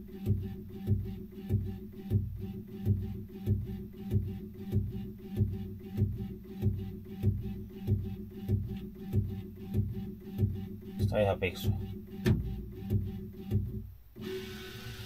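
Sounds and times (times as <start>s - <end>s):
background music with steady beat: 0.0s - 14.3s.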